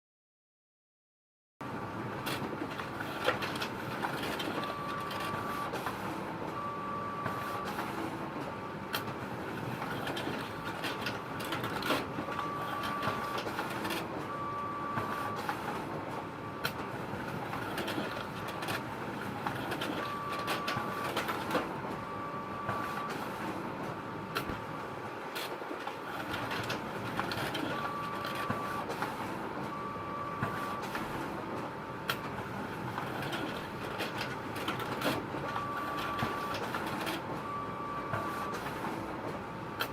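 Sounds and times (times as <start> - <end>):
photocopier whirring: 2.1 - 39.9.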